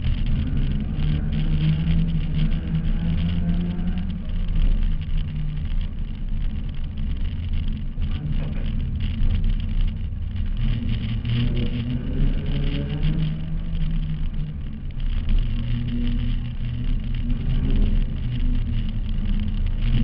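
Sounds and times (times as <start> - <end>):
car engine running hard: 0.0 - 20.0
wind and road noise: 0.0 - 20.0.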